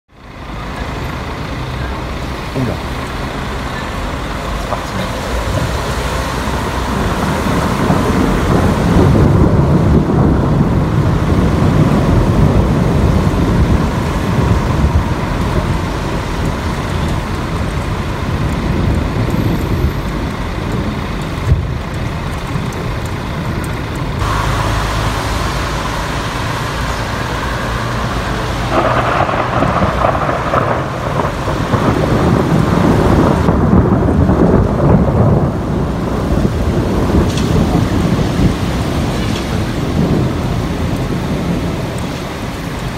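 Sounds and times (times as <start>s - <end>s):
rain hissing: 0.2s - 42.9s
rolling thunder: 3.2s - 42.9s.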